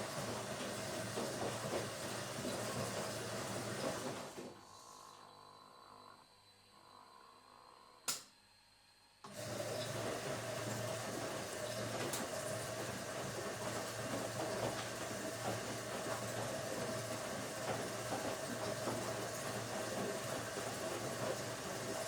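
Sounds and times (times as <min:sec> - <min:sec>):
washing machine running: 0:00.0 - 0:06.2, 0:09.3 - 0:22.0.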